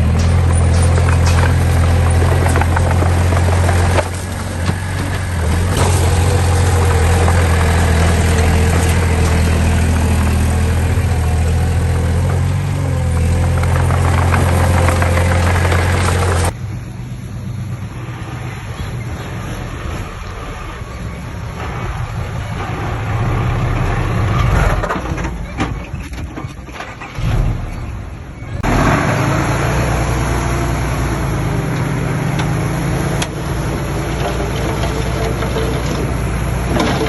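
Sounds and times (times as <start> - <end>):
heavy diesel engine humming: 0.0 - 37.0.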